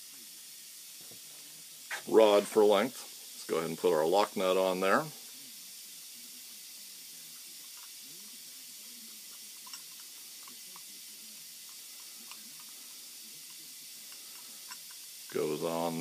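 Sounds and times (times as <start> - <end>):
steady faint hiss: 0.0 - 16.0.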